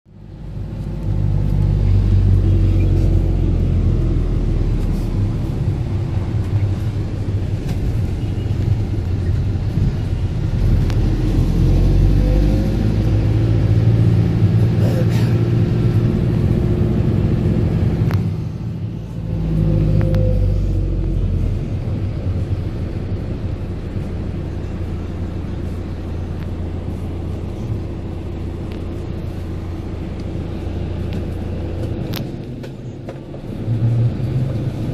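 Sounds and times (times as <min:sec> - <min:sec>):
car engine and road rumble: 0:00.1 - 0:34.9.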